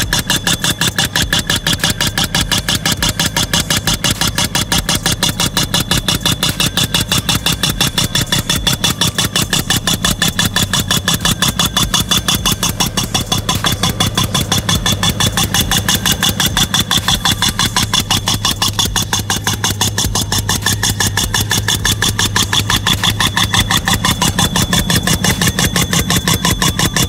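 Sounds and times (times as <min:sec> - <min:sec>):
engine running: 0:00.0 - 0:27.0
pneumatic piercing tool hammering: 0:00.0 - 0:27.0.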